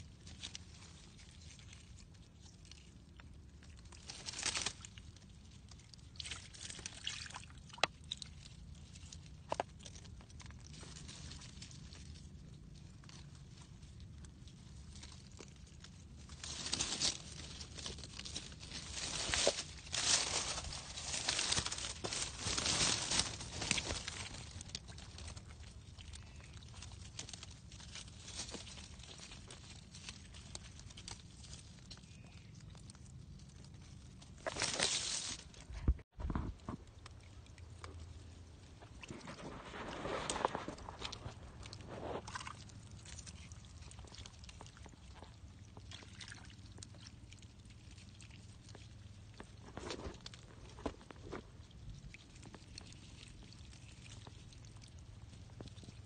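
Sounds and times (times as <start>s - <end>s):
wet leaves and mud crackling: 0.0s - 56.0s.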